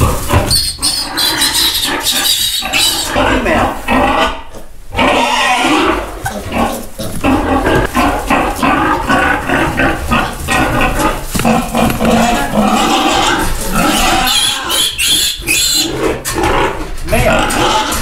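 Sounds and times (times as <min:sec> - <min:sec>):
piglets squealing: 0:00.0 - 0:16.1.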